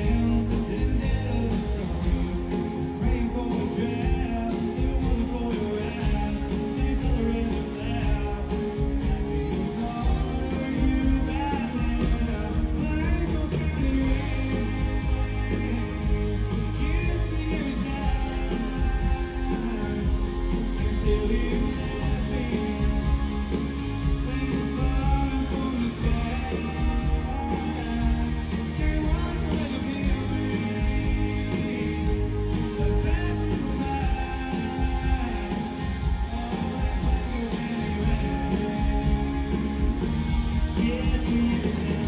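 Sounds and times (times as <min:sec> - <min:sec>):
live country band playing: 0:00.0 - 0:42.0
man singing: 0:00.0 - 0:42.0.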